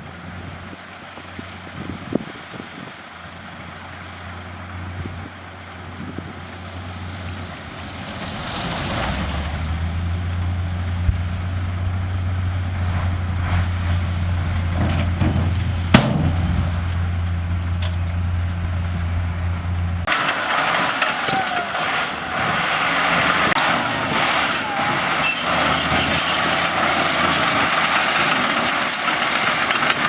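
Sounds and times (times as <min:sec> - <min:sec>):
diesel engine low drone: 0:00.0 - 0:30.0.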